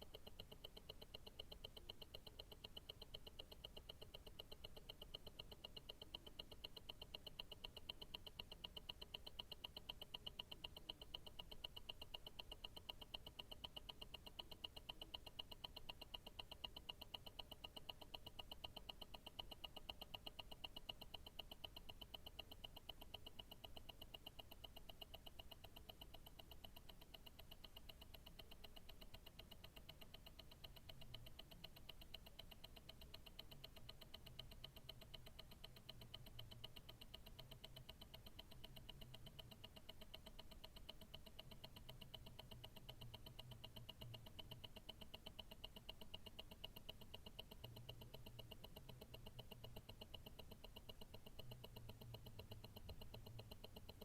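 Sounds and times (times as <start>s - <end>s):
watch ticking rapidly: 0.0s - 54.0s.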